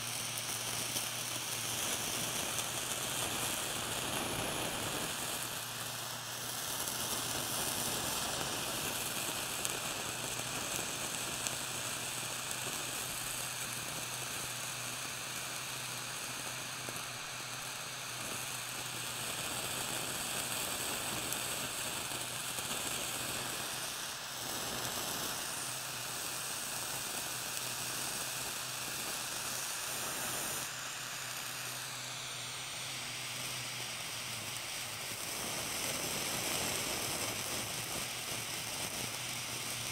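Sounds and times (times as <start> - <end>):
cheese sizzling and bubbling: 0.0 - 39.9
torch flame hissing: 0.0 - 39.9.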